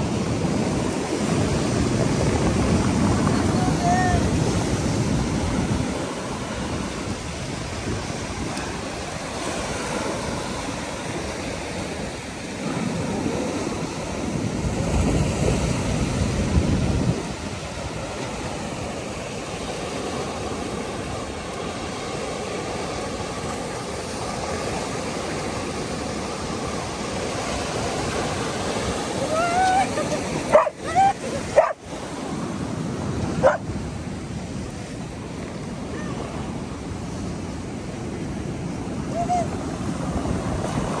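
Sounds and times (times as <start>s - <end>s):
sea waves washing over concrete: 0.0s - 41.0s
wind buffeting microphone: 0.0s - 41.0s.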